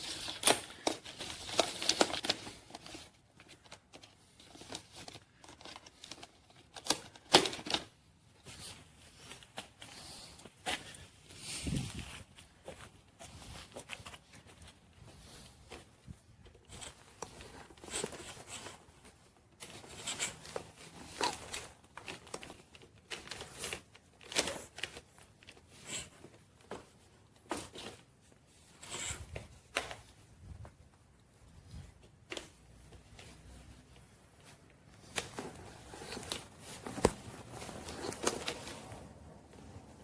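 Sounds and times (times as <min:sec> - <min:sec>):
handling rustles: 0:00.0 - 0:40.0.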